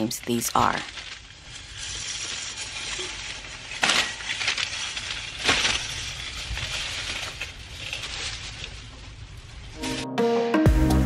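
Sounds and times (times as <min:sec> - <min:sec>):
plastic shopping bags rustling: 0:00.0 - 0:10.0.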